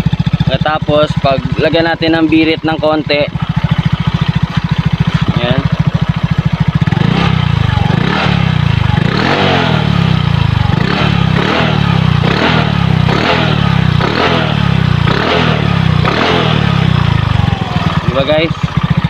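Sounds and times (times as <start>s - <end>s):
scooter engine revving: 0.0s - 19.0s.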